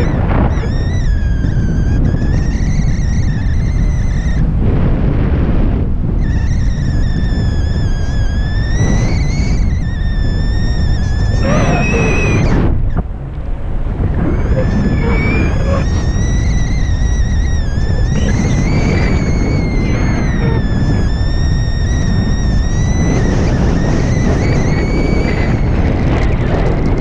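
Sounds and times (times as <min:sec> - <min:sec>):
thin high whistle: 0:00.0 - 0:04.4, 0:06.2 - 0:13.0, 0:14.2 - 0:26.2
wind buffeting microphone: 0:00.0 - 0:27.0.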